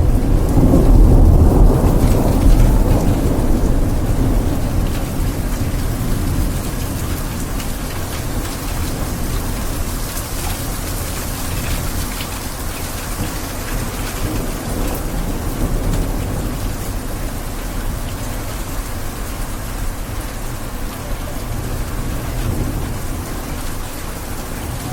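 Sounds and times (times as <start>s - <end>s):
steady rain: 0.0s - 24.9s.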